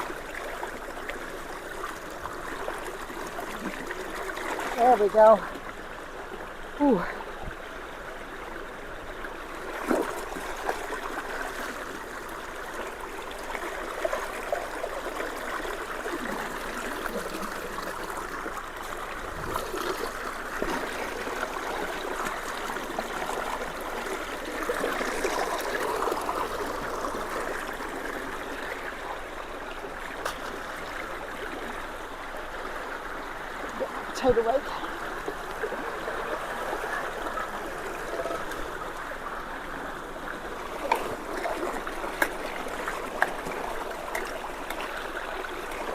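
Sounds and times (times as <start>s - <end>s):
creek water gurgling: 0.0s - 45.9s.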